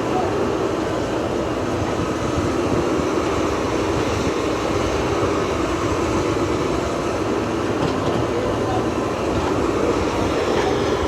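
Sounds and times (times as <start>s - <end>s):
excavator engine drone: 0.0s - 11.0s.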